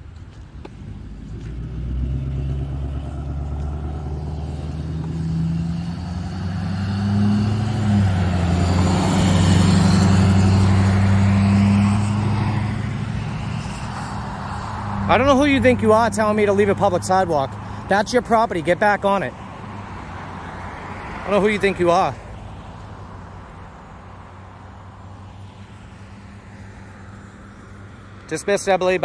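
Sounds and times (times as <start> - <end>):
pickup truck driving past: 0.7 - 28.8.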